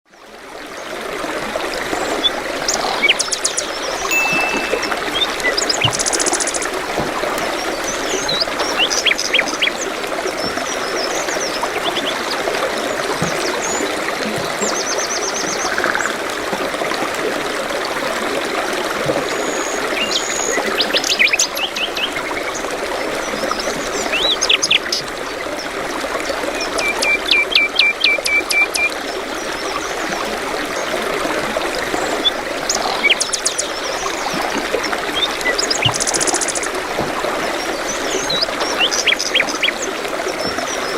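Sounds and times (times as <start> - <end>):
running water rushing: 0.1 - 40.9.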